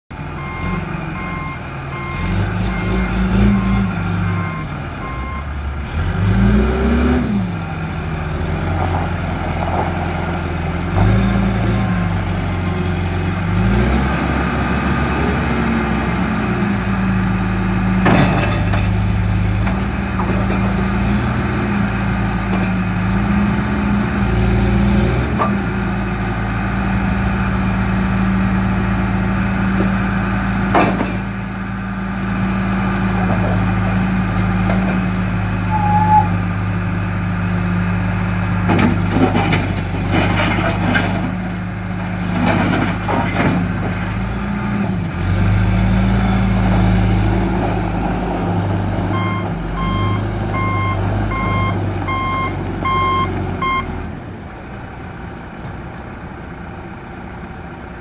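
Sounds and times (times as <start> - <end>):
diesel engine revving: 0.1 - 58.0.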